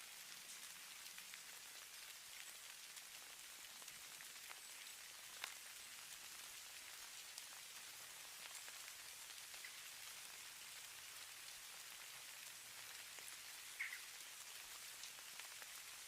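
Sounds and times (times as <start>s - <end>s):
falling snow pattering: 0.3s - 16.0s.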